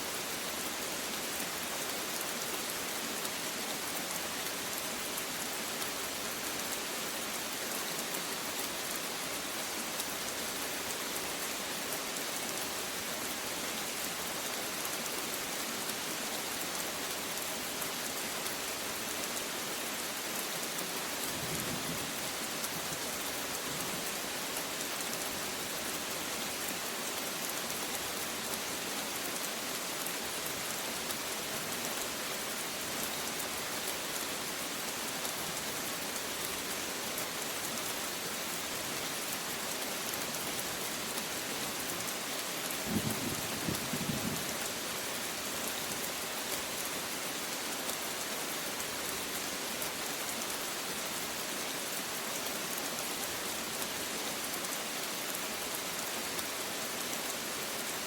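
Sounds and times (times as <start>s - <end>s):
heavy rain pattering: 3.2s - 58.0s.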